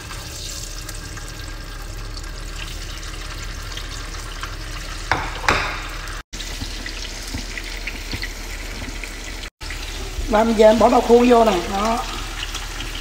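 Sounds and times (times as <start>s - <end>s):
oil sizzling in a frying pan: 0.0s - 13.0s.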